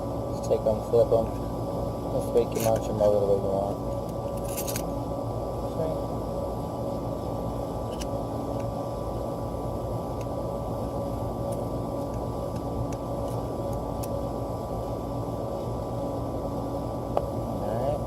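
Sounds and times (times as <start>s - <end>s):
mechanical hum and drone: 0.0s - 18.0s.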